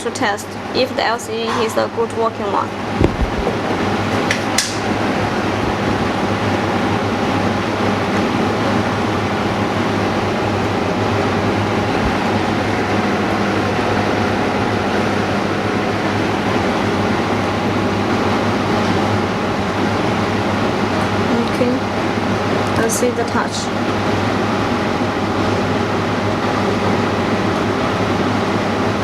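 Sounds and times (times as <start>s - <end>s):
machinery or fan whirring hum: 0.0s - 29.0s.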